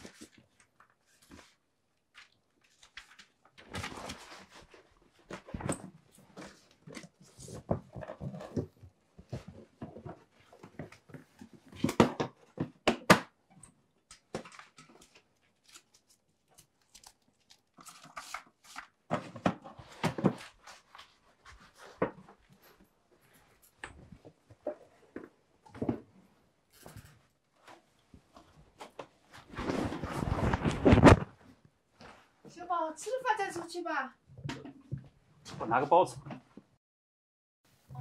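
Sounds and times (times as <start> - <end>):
papers rustling and shuffling: 0.0 - 12.8, 14.1 - 26.2, 26.8 - 33.7.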